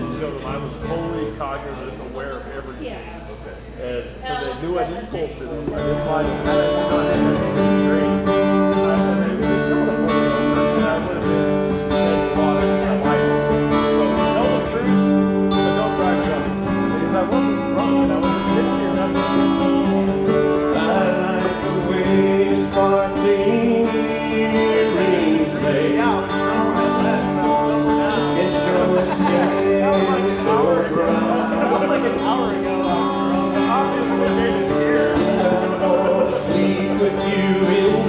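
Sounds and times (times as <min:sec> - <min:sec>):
strummed acoustic guitar: 0:00.0 - 0:02.8, 0:03.6 - 0:38.0
harmonica melody: 0:00.0 - 0:03.4, 0:04.2 - 0:38.0
electric guitar: 0:05.6 - 0:38.0.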